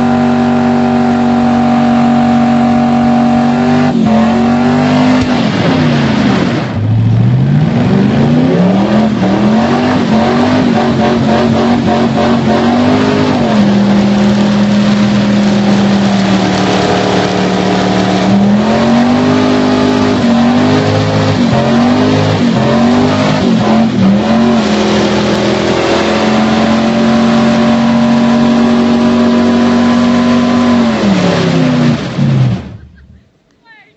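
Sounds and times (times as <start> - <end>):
car engine revving hard: 0.0 - 32.8.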